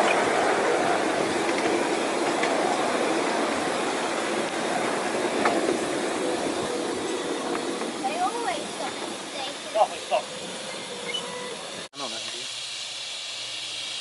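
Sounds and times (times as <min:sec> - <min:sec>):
wheels clicking over rail joints: 0:00.0 - 0:12.4
model train wheels rumbling on rail: 0:00.0 - 0:14.0.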